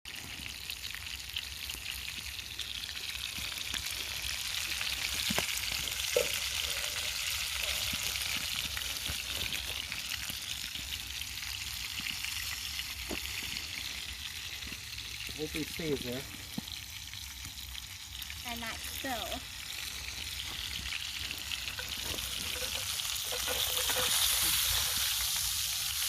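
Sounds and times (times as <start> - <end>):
burgers sizzling in a pan: 0.1 - 26.0.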